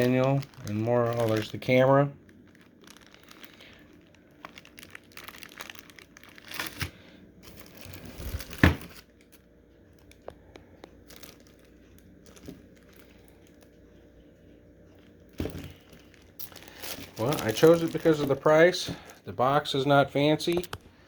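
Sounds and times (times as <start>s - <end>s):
packaging crinkling and rustling: 0.0s - 13.8s, 14.9s - 19.8s.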